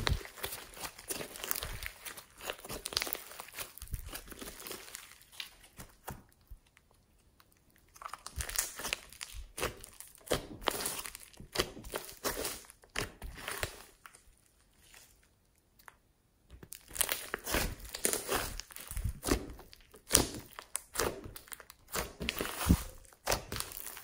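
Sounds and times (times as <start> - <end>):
slime crackling and popping: 0.0 - 24.0.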